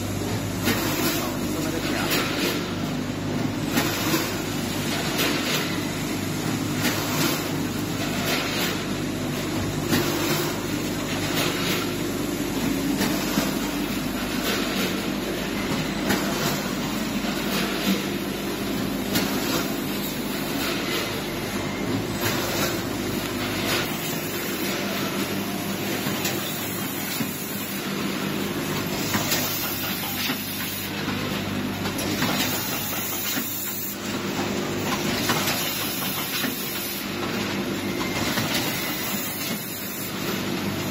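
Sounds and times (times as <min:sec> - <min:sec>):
packaging machine hum: 0:00.0 - 0:40.9.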